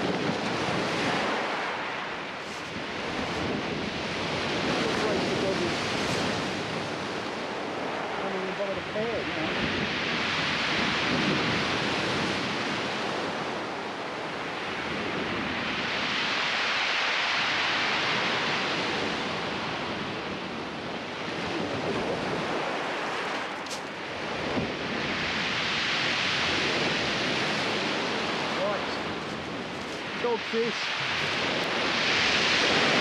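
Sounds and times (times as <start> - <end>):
sea waves breaking on beach: 0.0 - 33.0.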